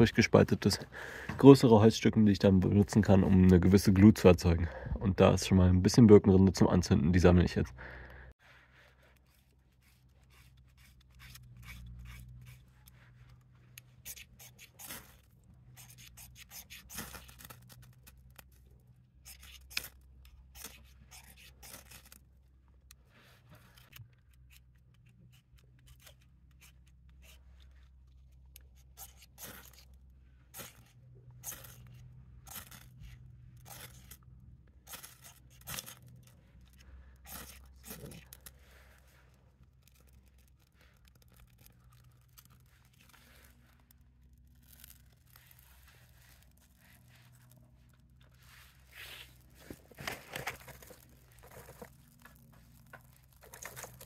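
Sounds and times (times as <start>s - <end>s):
faint rasping scrapes on bark: 8.4s - 22.3s, 23.0s - 54.0s.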